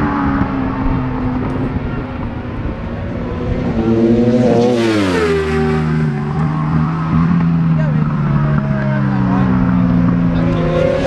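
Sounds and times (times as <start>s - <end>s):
racing motorcycle passing: 0.0s - 11.0s
steady engine drone: 0.0s - 11.0s.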